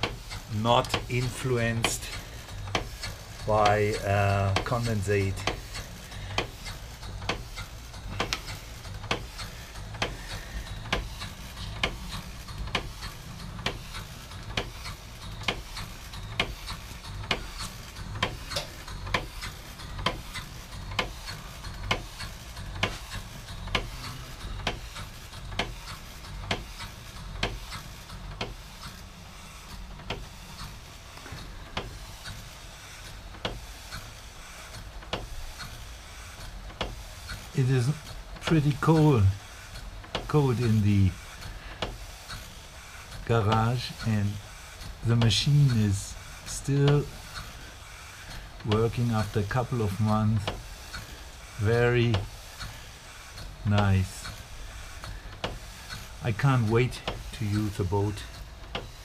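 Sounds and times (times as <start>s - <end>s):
steam pump ticking: 0.0s - 59.0s.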